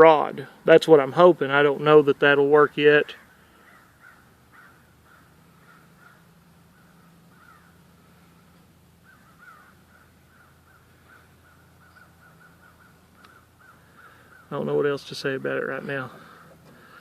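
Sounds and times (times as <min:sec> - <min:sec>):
steady low hum: 0:00.0 - 0:17.0
faint bird calls: 0:03.0 - 0:17.0.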